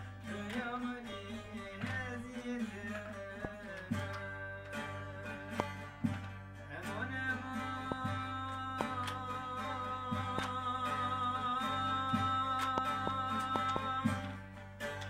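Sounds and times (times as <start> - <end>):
plucked saz: 0.0 - 15.0.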